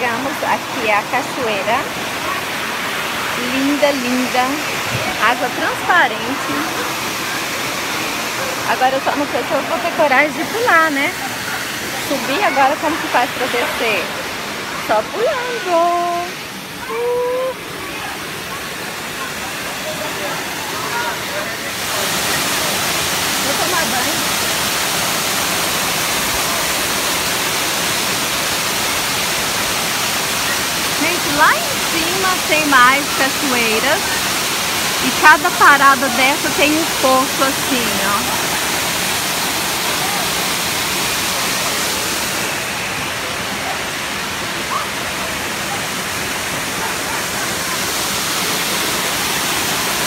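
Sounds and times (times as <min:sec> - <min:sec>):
waterfall rushing over rocks: 0:00.0 - 0:50.0.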